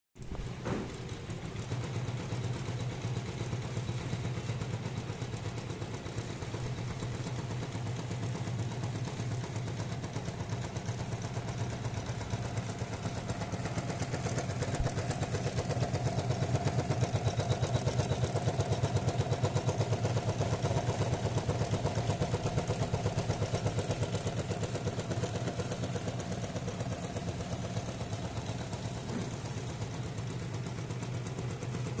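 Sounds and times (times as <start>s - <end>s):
machine motor running: 0.2s - 30.6s
embroidery needle chatter: 1.3s - 30.1s.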